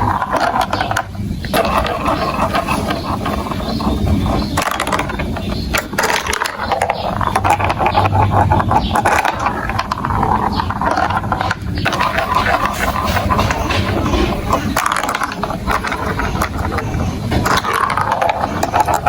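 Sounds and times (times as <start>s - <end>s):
marbles rattling along plastic tracks: 0.0s - 19.0s.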